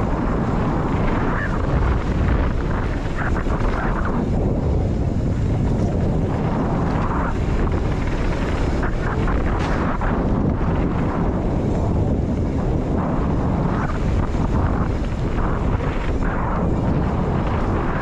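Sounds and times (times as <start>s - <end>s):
bike clicks and rattles: 0.0s - 18.0s
tyre and trail noise: 0.0s - 18.0s
wind buffeting microphone: 0.0s - 18.0s.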